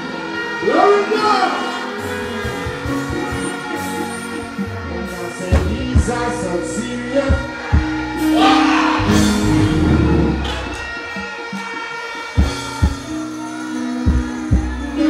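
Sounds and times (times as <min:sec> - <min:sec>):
live reggae band: 0:00.0 - 0:15.0
person singing into microphone: 0:00.0 - 0:15.0.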